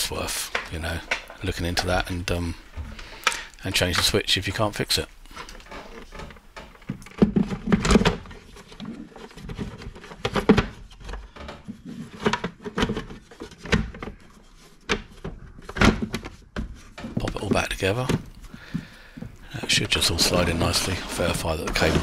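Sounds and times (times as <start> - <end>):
plastic parts clicking and knocking: 0.2 - 4.2, 5.3 - 20.5.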